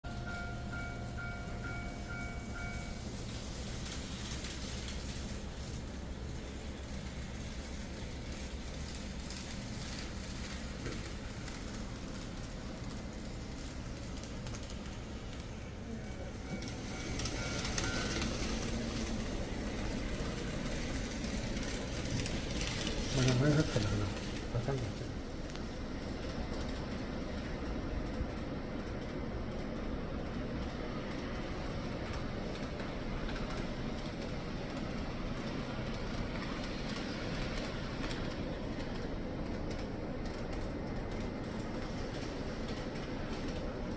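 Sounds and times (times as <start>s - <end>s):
model train running on track: 0.0s - 43.9s
rail joint clicks: 0.1s - 43.9s.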